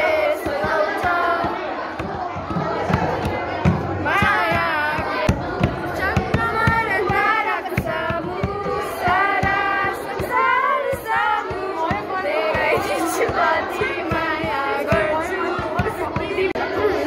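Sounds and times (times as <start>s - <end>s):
rhythmic beat: 0.0s - 17.0s
singing voices: 0.0s - 17.0s.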